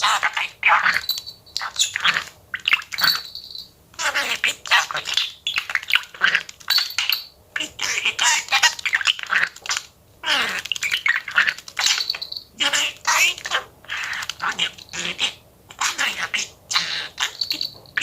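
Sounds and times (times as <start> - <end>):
budgerigar chattering and warbling: 0.0 - 3.3, 4.0 - 17.6.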